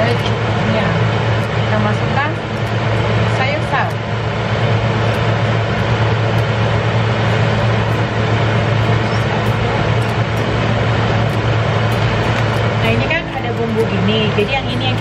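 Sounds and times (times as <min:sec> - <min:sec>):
constant rushing noise: 0:00.0 - 0:15.0
loud low hum: 0:00.0 - 0:15.0.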